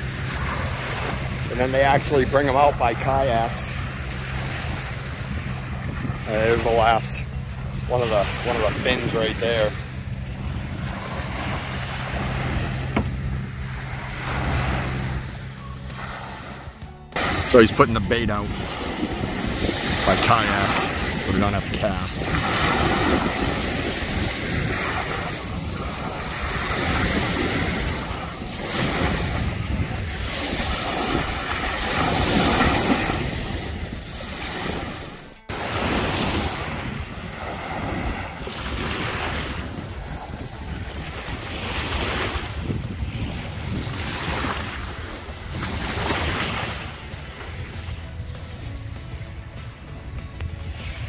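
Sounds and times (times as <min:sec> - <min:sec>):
wind buffeting microphone: 0:00.0 - 0:15.5, 0:16.2 - 0:48.9
small waves washing on shore: 0:00.0 - 0:48.5.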